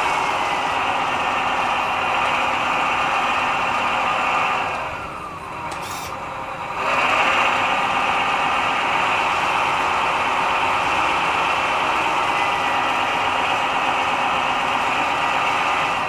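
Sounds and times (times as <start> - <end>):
rc truck mechanical whirr: 0.2 - 16.0.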